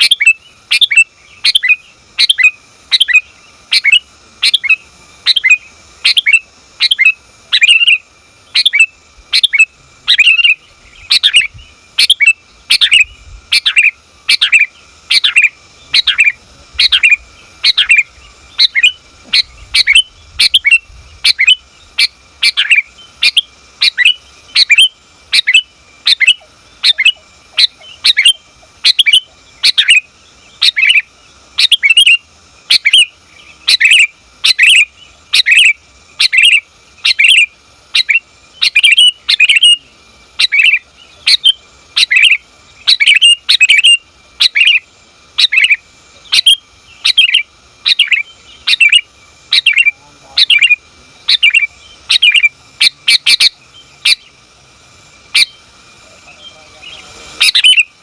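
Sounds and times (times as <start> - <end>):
bird chirping: 0.0 - 54.6, 55.2 - 58.0.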